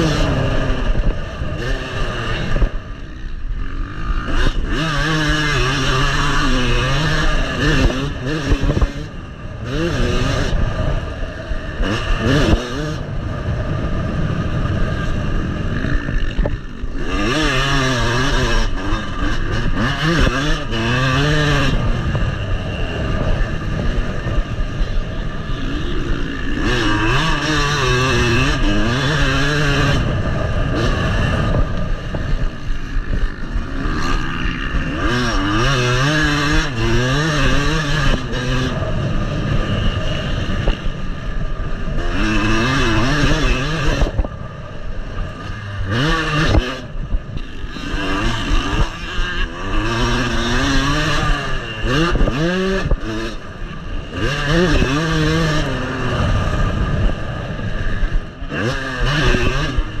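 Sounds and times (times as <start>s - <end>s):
motocross bike engine revving: 0.0s - 60.0s.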